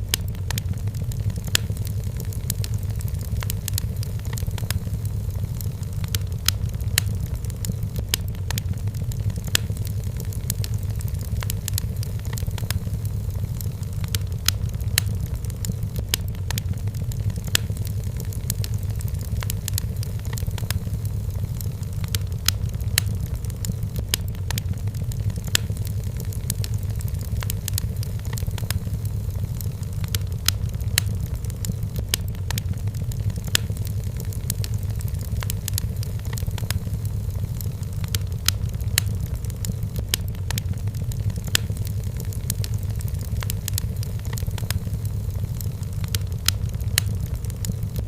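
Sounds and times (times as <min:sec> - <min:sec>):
fire pops: 0:00.0 - 0:48.0
low fire rumble: 0:00.0 - 0:48.0
wood fire crackling: 0:00.0 - 0:48.0.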